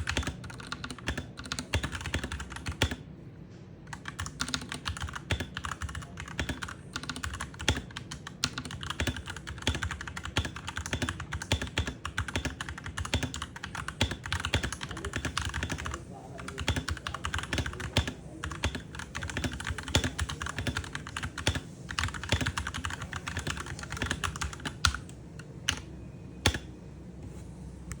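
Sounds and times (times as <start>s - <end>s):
mechanical keyboard typing: 0.0s - 3.0s, 3.9s - 26.7s.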